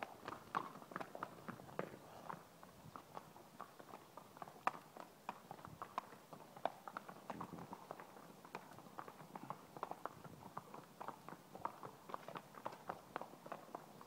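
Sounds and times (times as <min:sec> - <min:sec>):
horse hooves on pavement: 0:00.0 - 0:14.0.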